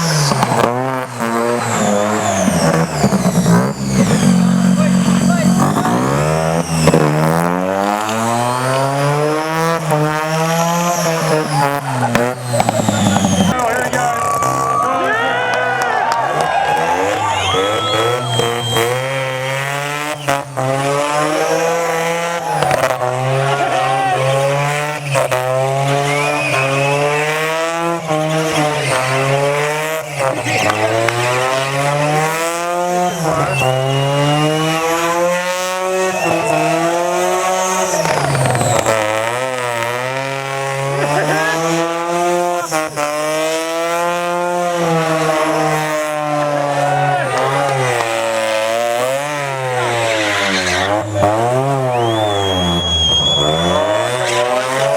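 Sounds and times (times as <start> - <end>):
rotary engine revving: 0.0 - 54.9.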